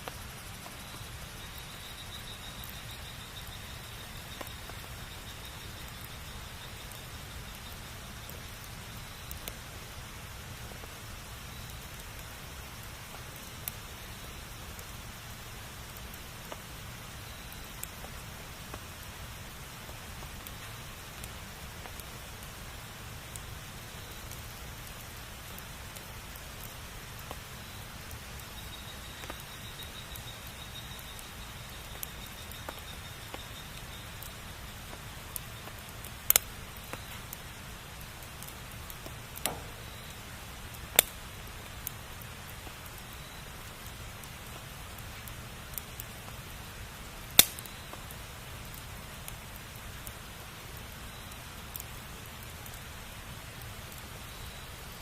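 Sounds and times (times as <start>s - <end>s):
bonfire hissing: 0.0s - 55.0s
fire crackles and pops: 0.0s - 55.0s.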